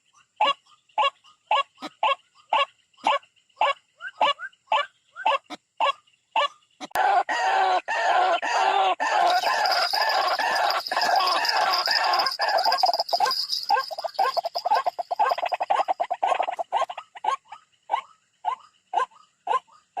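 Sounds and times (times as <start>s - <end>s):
chorus of bird calls: 0.1s - 20.0s.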